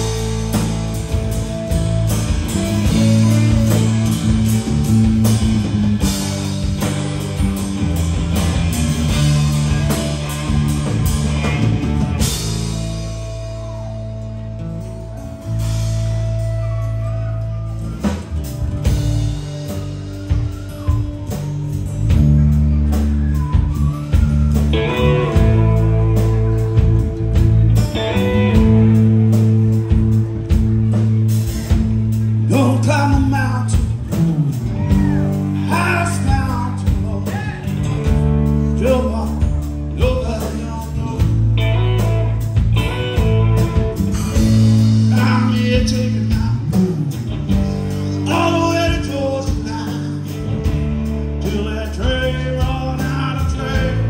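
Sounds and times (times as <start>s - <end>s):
guitar instrumental music: 0.0s - 54.0s.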